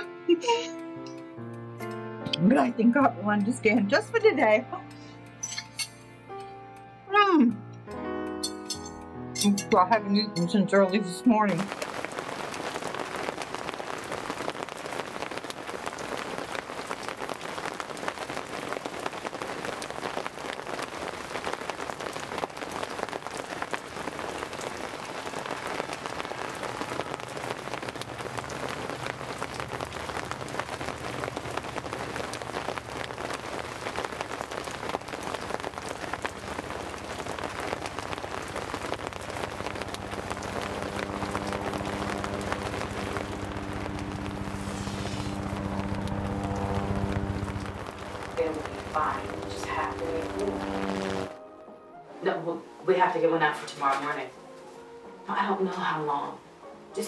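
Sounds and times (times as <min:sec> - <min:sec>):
steady rain on hard surfaces: 0:00.0 - 0:06.5, 0:08.4 - 0:51.4, 0:52.2 - 0:57.0.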